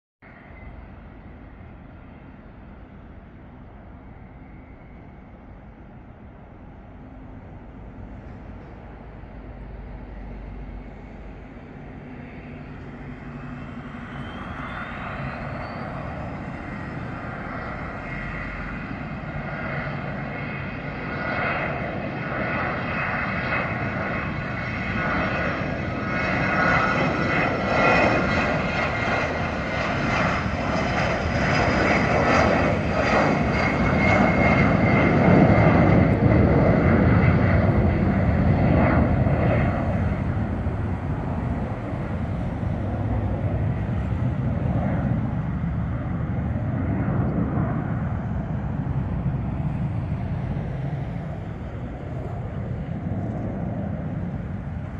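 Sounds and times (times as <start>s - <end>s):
jet engines on takeoff: 0.2s - 54.9s.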